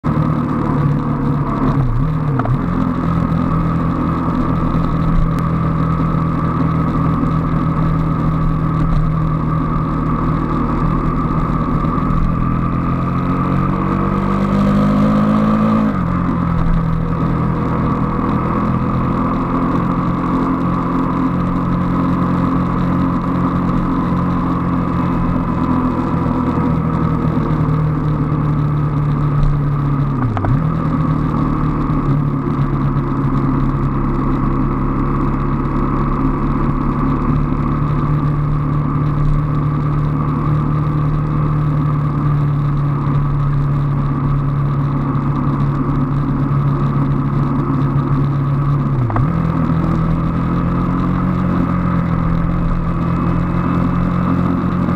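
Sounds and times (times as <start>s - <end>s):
motorcycle engine accelerating: 0.0s - 54.9s
wind and road noise: 0.0s - 54.9s.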